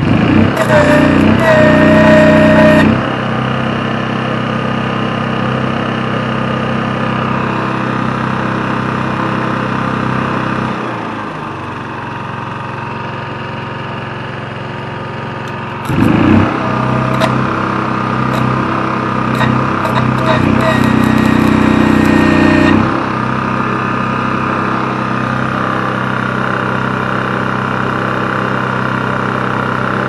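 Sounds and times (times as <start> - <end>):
welder generator engine running: 0.0 - 30.0.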